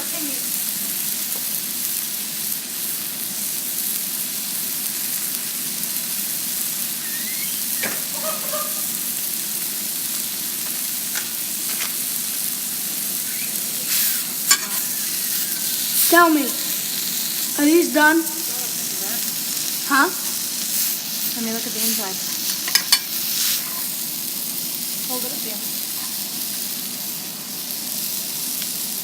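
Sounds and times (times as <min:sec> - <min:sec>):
chicken sizzling: 0:00.0 - 0:29.0.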